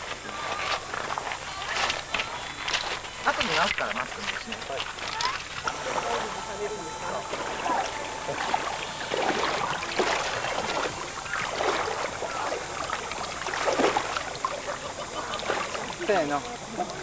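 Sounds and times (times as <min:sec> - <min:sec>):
shallow seawater splashing: 0:00.0 - 0:17.0.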